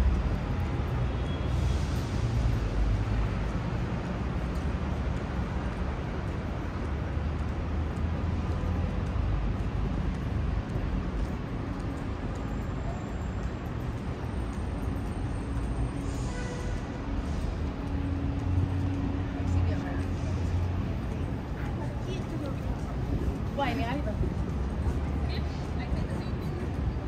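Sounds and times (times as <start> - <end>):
low city traffic: 0.0 - 27.0.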